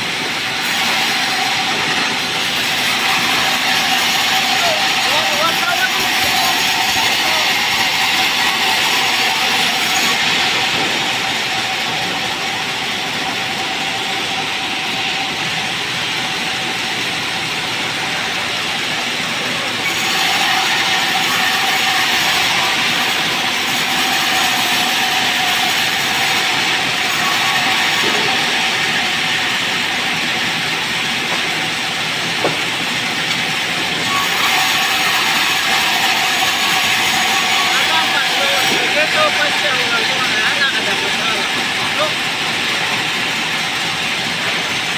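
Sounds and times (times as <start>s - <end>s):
band saw blade whine: 0.0s - 44.9s.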